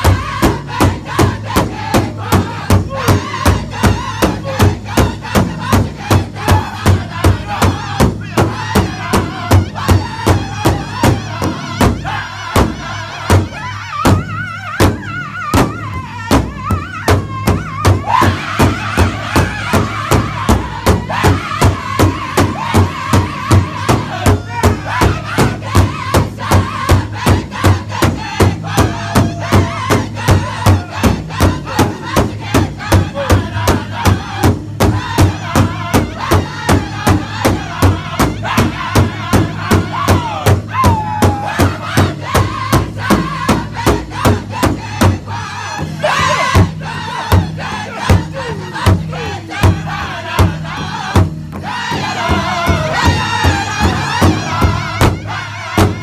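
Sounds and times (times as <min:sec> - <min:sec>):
group singing: 0:00.0 - 0:56.0
large hand drum beating: 0:00.0 - 0:56.0.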